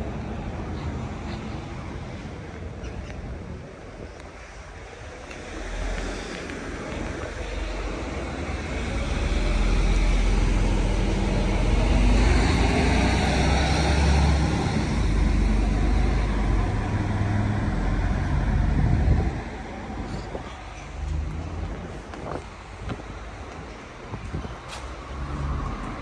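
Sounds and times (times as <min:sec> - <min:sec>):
outdoor rumble and hiss: 0:00.0 - 0:26.0.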